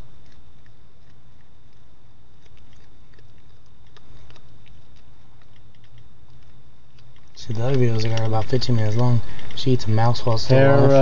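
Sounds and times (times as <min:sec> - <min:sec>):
cat chewing with crunches: 0:00.0 - 0:11.0
steady low hum: 0:00.0 - 0:11.0.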